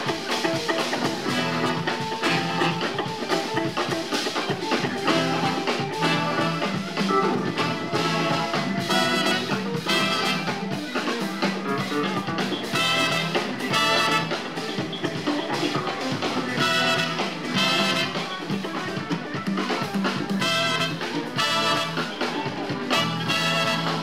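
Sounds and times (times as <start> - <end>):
horn section chords: 0.0 - 19.4, 20.2 - 24.0
jazz fusion band playing: 0.0 - 24.0.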